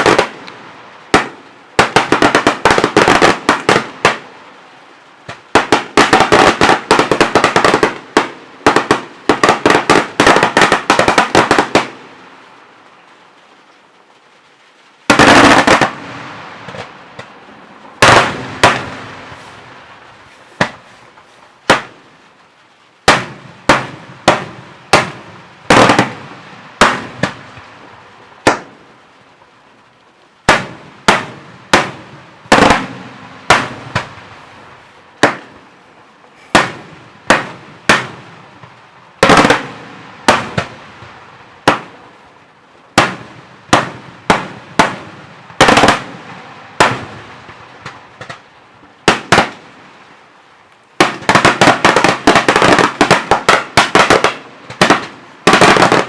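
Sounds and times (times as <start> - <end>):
fireworks bangs echoing: 0.0 - 4.5, 5.2 - 12.3, 15.0 - 22.4, 23.0 - 29.1, 30.4 - 42.2, 42.9 - 50.0, 51.0 - 56.0
crackling firework burst: 0.0 - 56.0.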